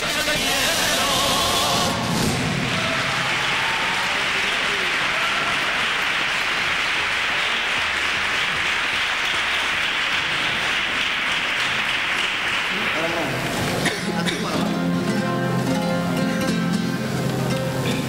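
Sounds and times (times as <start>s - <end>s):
crowd applauding: 1.8s - 18.0s.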